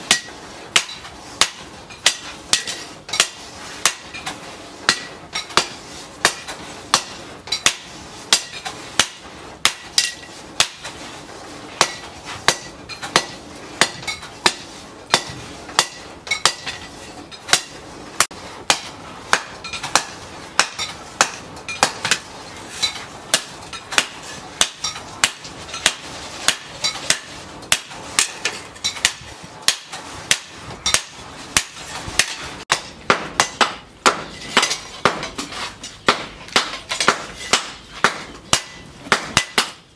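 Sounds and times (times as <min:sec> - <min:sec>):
hammer beating steel on anvil: 0:00.0 - 0:11.1, 0:11.8 - 0:35.4, 0:36.0 - 0:39.8.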